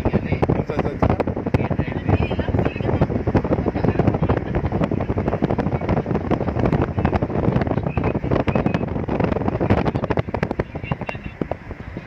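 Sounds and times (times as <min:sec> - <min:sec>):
car and road rumble: 0:00.0 - 0:12.0
wind buffeting microphone: 0:00.0 - 0:12.0.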